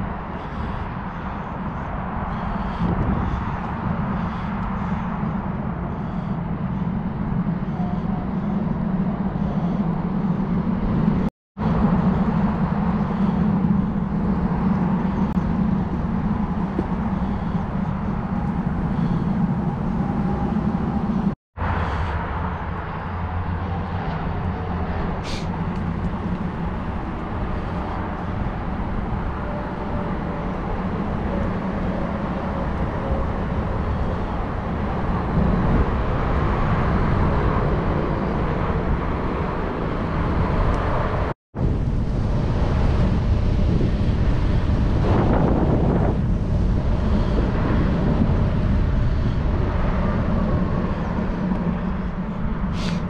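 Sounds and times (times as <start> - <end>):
wind on microphone: 0.0 - 53.0.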